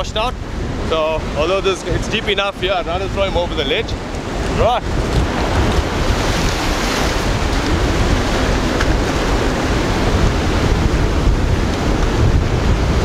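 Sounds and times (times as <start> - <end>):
surf washing over rocks: 0.0 - 13.0
wind buffeting microphone: 0.0 - 13.0.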